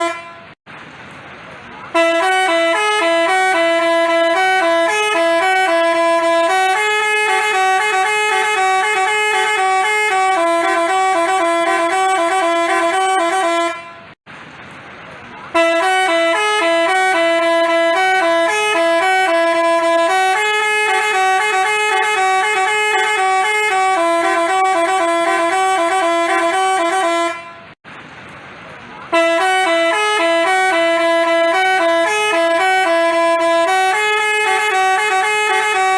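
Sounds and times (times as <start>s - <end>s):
multi-tone bus horn melody: 0.0s - 0.6s, 1.9s - 14.2s, 15.5s - 27.8s, 29.1s - 35.9s.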